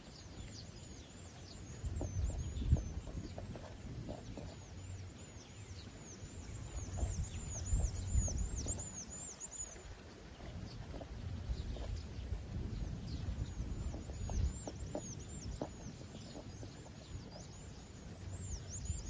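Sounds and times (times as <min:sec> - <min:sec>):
low outdoor rumble: 0:00.0 - 0:19.0
small bird chirping: 0:00.0 - 0:19.0.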